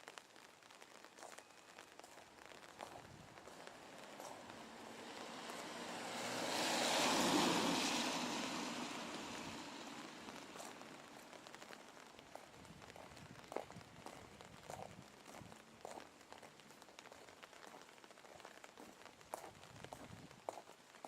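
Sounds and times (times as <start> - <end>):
tyres hissing on wet road: 1.3 - 21.0.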